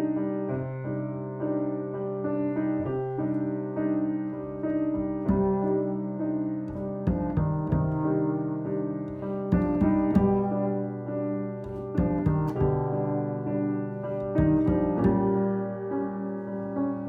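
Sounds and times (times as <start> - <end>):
piano playing soft chords: 0.0 - 17.0.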